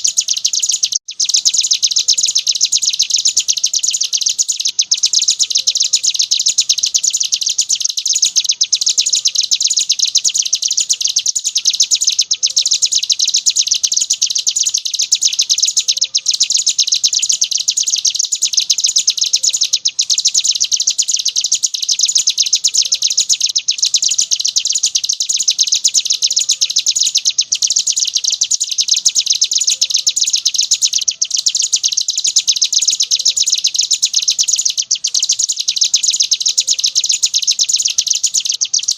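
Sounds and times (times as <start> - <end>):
bird singing high-pitched trill: 0.0 - 38.9.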